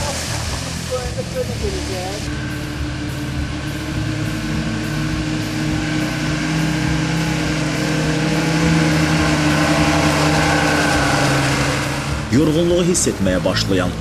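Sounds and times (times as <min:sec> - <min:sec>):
off-road vehicle engine running: 0:00.0 - 0:14.0
road noise: 0:00.0 - 0:14.0.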